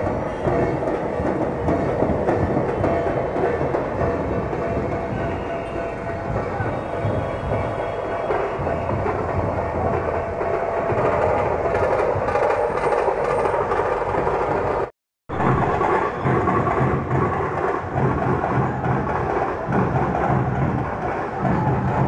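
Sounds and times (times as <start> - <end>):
crowd hubbub: 0.0 - 22.0
procession music and drumming: 0.0 - 22.0
traffic rumble: 0.0 - 22.0.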